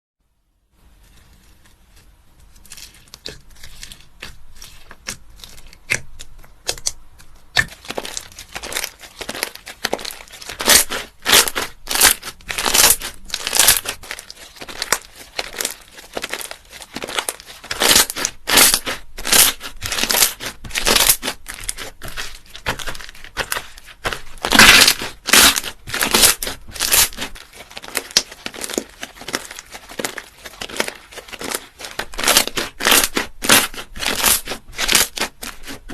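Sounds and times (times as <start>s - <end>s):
slime squeezed by hand crackling: 2.6s - 35.9s.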